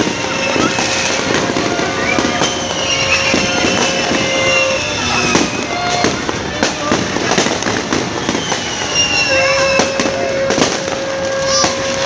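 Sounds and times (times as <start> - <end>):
fireworks bangs and crackles: 0.0 - 12.0
fireworks whistling: 0.0 - 12.0.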